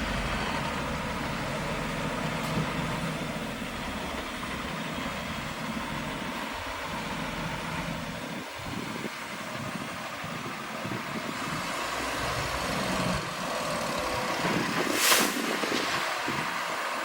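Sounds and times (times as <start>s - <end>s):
heavy diesel engine running: 0.0s - 14.8s.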